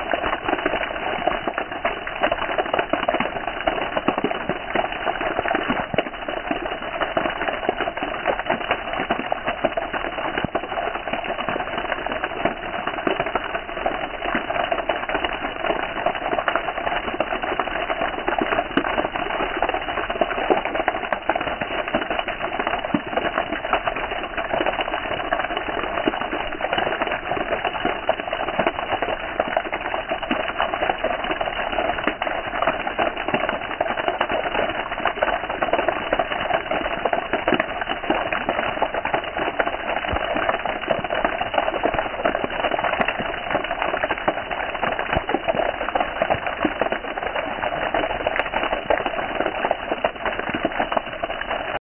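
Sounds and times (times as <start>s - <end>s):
steady rain falling: 0.0s - 51.8s.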